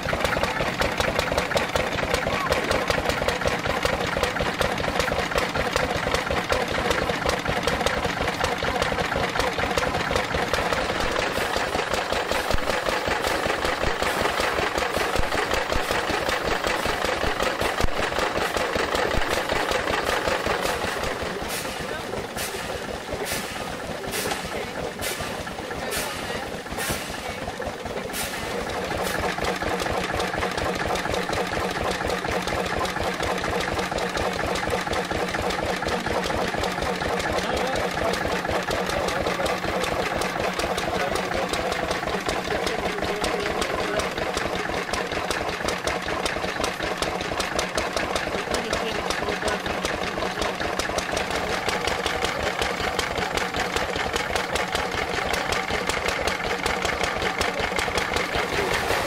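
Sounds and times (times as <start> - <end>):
winnowing machine rattling: 0.0 - 59.0.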